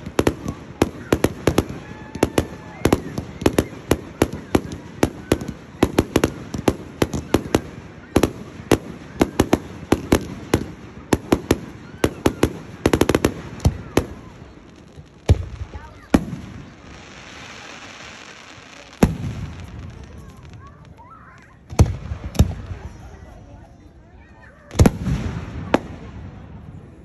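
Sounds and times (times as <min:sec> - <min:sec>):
fireworks bangs: 0:00.0 - 0:23.4, 0:24.6 - 0:27.0.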